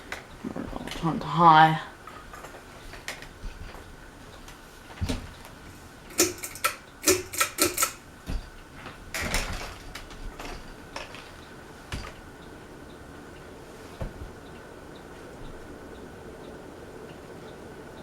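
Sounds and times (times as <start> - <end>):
ceiling fan whirring: 0.0 - 18.0.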